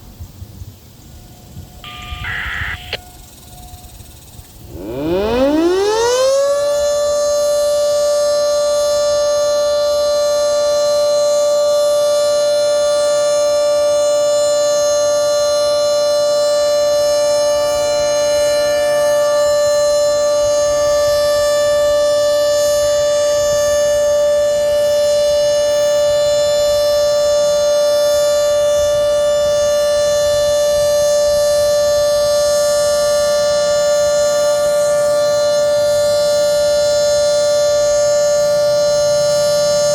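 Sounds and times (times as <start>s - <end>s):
two-tone siren winding up: 1.8s - 39.9s.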